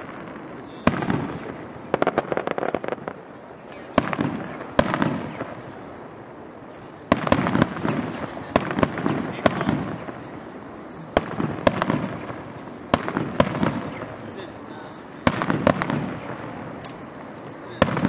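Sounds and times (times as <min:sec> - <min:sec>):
fireworks bursting with echoing rumble: 0:00.0 - 0:18.0.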